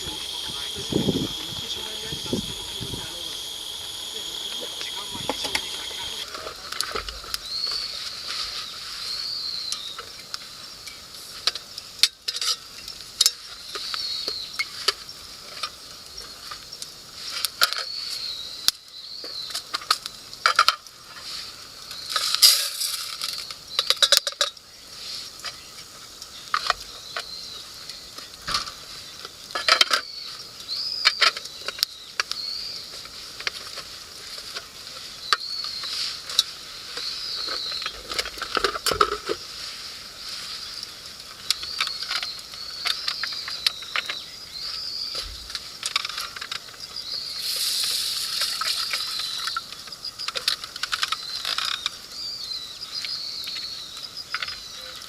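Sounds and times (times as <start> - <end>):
light sizzle: 0.0 - 55.0.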